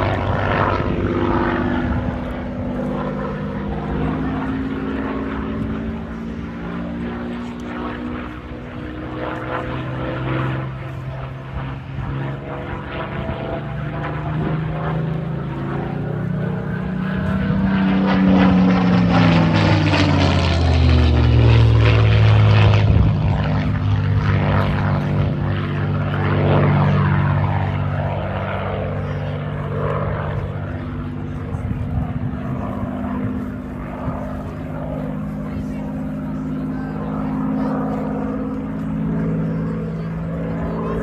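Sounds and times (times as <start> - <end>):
propeller plane flying past: 0.0 - 41.0.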